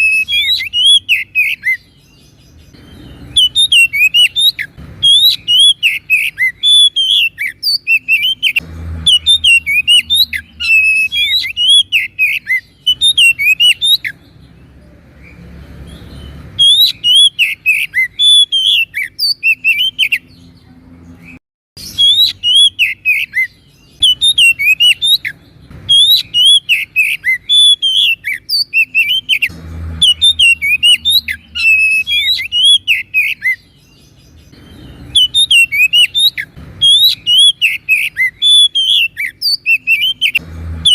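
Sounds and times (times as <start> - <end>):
bird singing chirps and whistles: 0.0 - 40.9.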